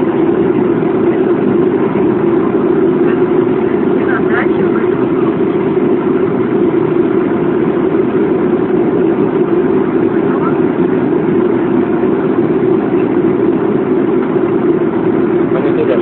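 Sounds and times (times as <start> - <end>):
airliner cabin engine hum: 0.0 - 16.0.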